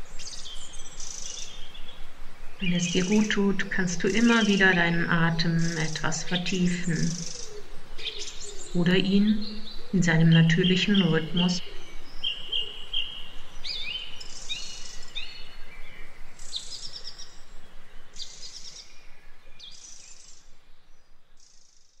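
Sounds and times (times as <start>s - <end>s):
faint background hiss: 0.0s - 22.0s
songbirds chirping: 0.0s - 22.0s.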